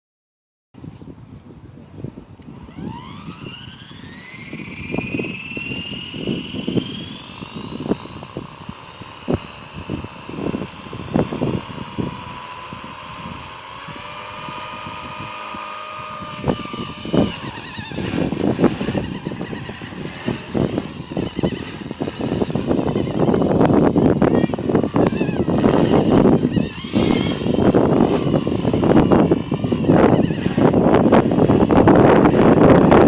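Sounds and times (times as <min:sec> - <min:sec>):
wind buffeting microphone: 0:00.8 - 0:33.0
helicopter motor and rotor whine: 0:02.2 - 0:33.0.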